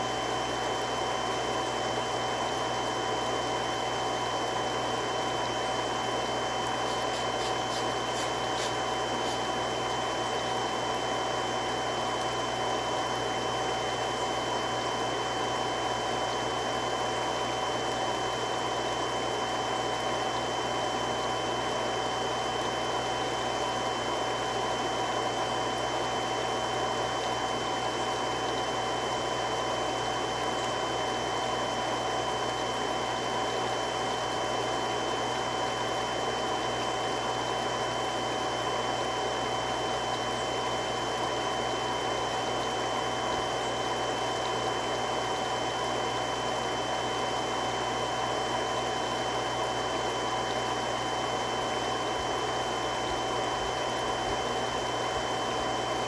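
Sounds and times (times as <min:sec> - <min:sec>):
water pump running: 0:00.0 - 0:56.0.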